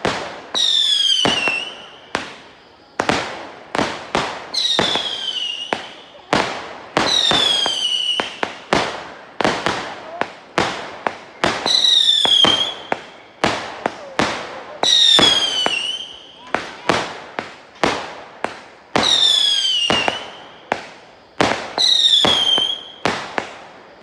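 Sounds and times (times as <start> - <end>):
fireworks bangs: 0.0 - 24.0
whistling firework shells: 0.0 - 24.0.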